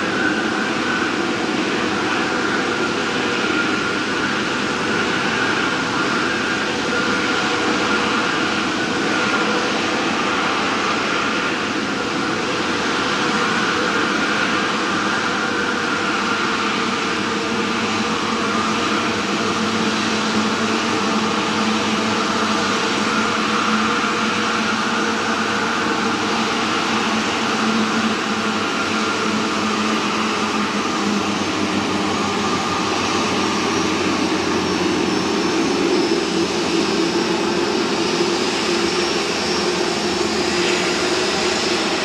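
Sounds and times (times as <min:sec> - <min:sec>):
faint steady whine: 0:00.0 - 0:42.0
jet engines running: 0:00.0 - 0:42.0.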